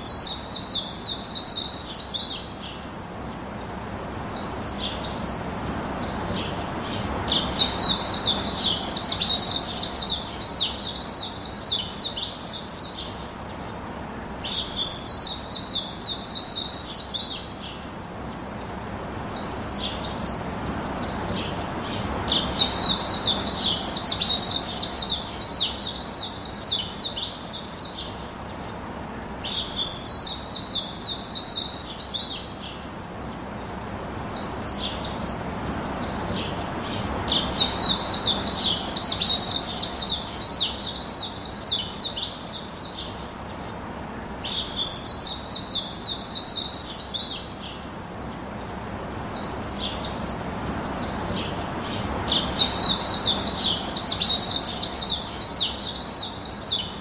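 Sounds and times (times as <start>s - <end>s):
low background hiss: 0.0s - 57.0s
songbird chirping trills: 0.0s - 57.0s.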